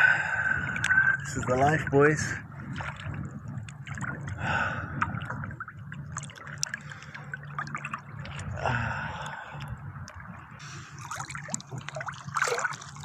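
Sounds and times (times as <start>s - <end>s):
steady low hum: 0.0s - 13.0s
water splashing and trickling: 0.4s - 13.0s.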